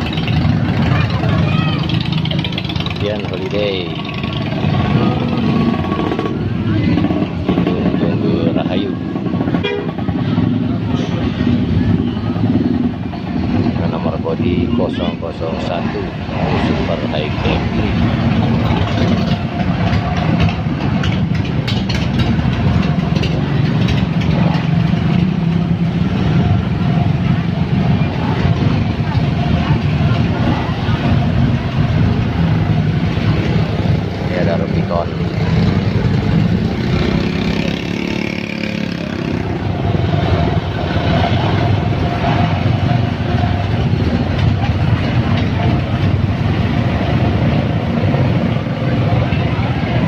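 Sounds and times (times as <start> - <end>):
bus diesel engine running: 0.0 - 50.0.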